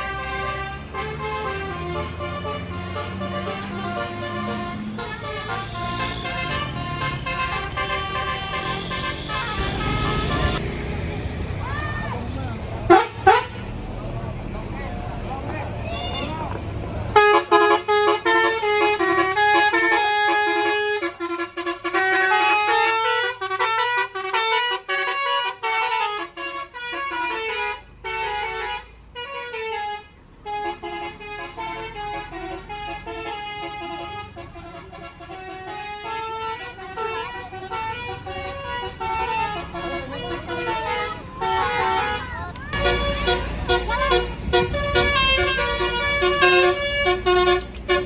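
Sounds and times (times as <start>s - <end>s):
musical air horns playing melody: 0.0s - 10.8s, 17.1s - 48.0s.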